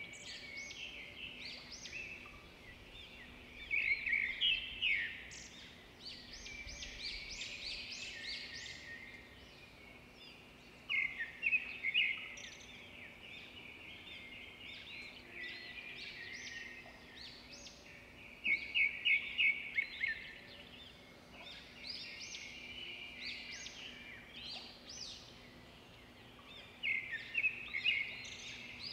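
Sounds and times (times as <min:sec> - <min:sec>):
small birds chirping and trilling: 0:00.0 - 0:28.9.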